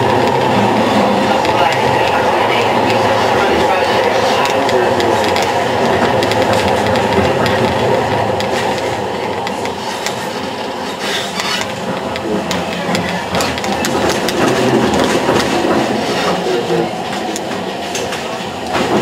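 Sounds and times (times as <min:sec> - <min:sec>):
tram rumbling on rails: 0:00.0 - 0:19.0
wheels clicking and rattling: 0:00.0 - 0:19.0.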